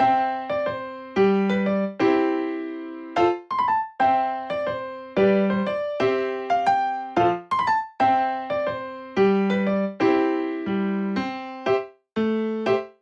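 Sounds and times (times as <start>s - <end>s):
gentle piano tune: 0.0s - 13.0s.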